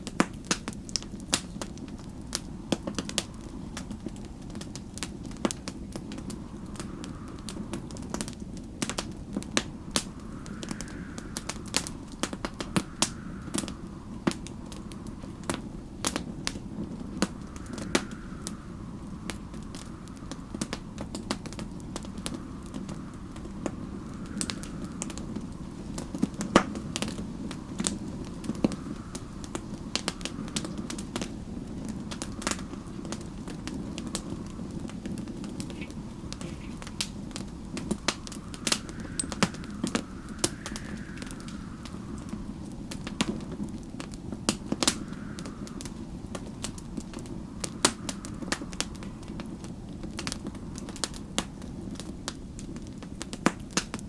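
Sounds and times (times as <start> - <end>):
wind whistling: 0.0 - 54.0
wood fire crackling: 0.0 - 54.0.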